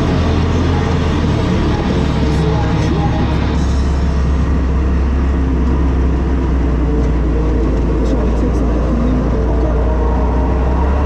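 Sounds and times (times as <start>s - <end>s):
drivetrain noise: 0.0s - 11.0s
vehicle engine running under load: 0.0s - 11.0s.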